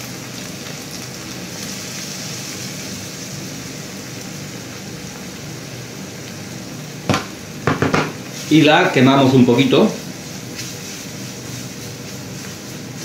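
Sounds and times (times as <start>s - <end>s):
onion and garlic sizzling in oil: 0.0s - 13.0s.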